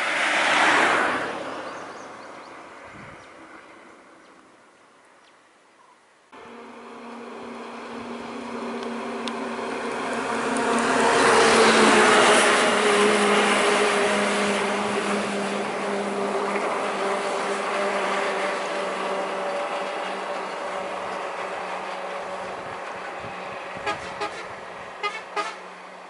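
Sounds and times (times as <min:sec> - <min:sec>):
diesel truck engine passing: 0:00.0 - 0:04.2, 0:06.4 - 0:26.0.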